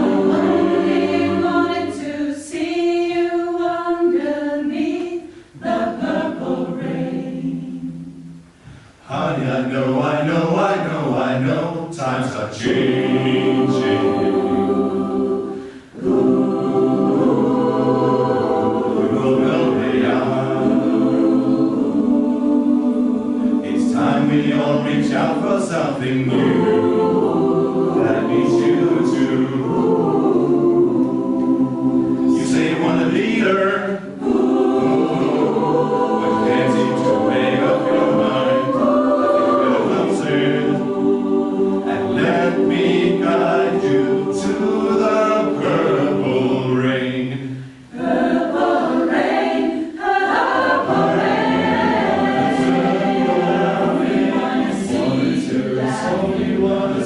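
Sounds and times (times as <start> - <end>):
choir singing held chords: 0.0 - 57.0.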